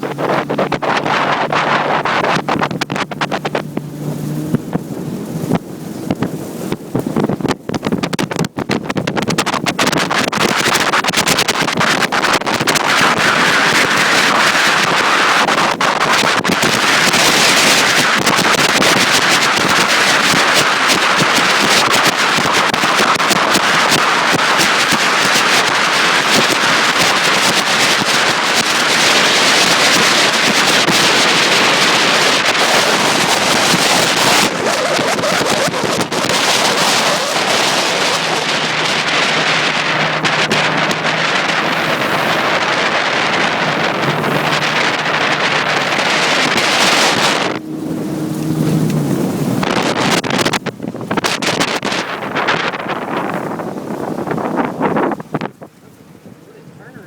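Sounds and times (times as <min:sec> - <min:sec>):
wind buffeting microphone: 0:00.0 - 0:57.0
short crackles: 0:04.5 - 0:56.0.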